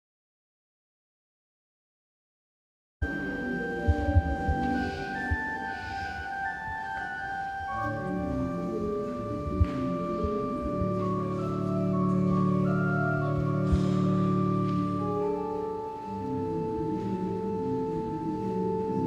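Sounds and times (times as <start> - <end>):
organ playing sustained chords: 3.0 - 19.0.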